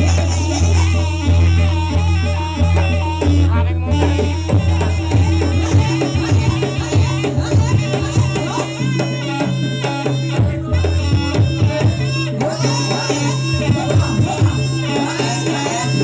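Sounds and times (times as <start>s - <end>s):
drums beating busy rhythm: 0.0s - 16.0s
sustained bass notes: 0.0s - 16.0s.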